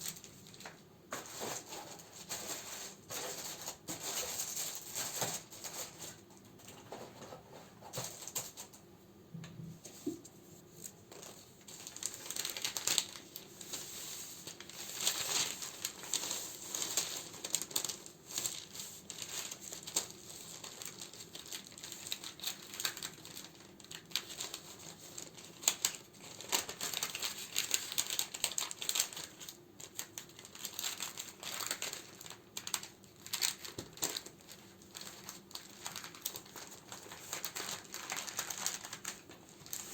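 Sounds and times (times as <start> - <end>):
plastic and paper crinkling: 0.0 - 8.8, 9.8 - 39.9.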